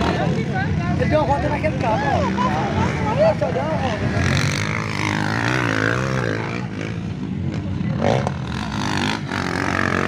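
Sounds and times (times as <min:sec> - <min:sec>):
dirt bikes revving: 0:00.0 - 0:10.0.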